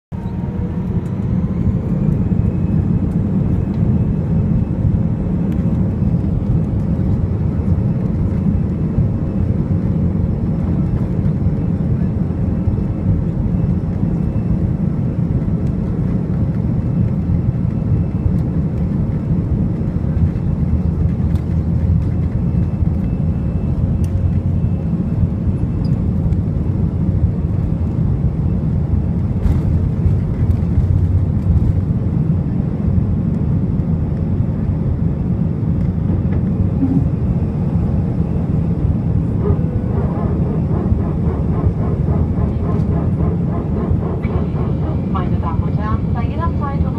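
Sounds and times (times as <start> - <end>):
airplane cabin rumble: 0.1 - 46.9
jet engines whining: 0.2 - 46.9.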